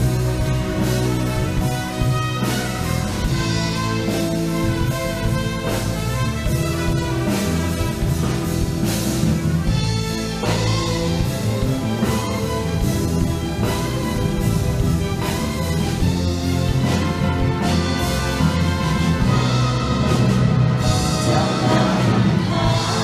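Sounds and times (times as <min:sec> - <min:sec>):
drum kit keeping time: 0:00.0 - 0:23.0
trumpets and trombones chords: 0:00.0 - 0:23.0
tuba: 0:00.0 - 0:23.0.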